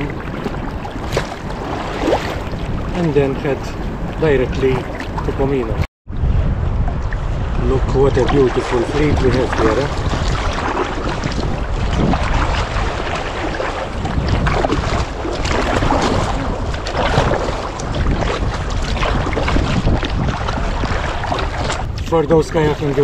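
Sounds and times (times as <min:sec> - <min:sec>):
water slapping against hull: 0:00.0 - 0:05.9, 0:06.8 - 0:23.0
wind buffeting microphone: 0:00.0 - 0:23.0.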